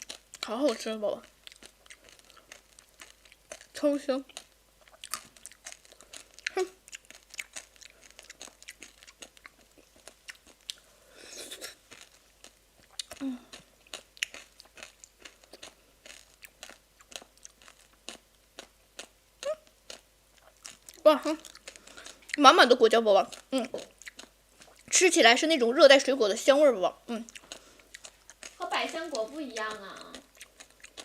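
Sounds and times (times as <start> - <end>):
person chewing fruit pulp: 0.0 - 25.1, 27.0 - 31.0.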